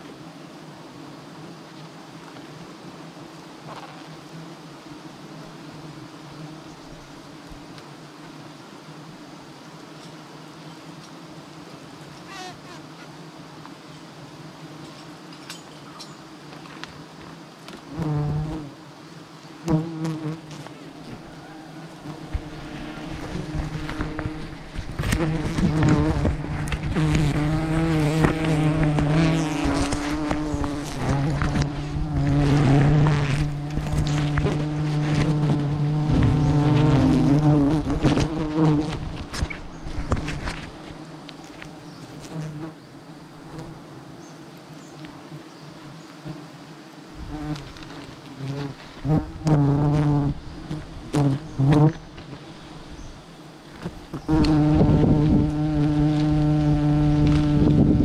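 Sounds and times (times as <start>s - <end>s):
bees buzzing: 0.0s - 58.0s
bees flying past microphone: 10.2s - 53.0s, 53.7s - 58.0s.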